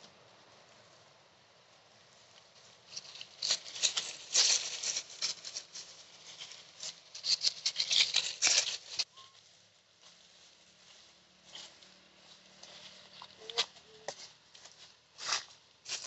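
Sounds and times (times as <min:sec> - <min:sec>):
rustling and crackling: 0:00.0 - 0:16.0.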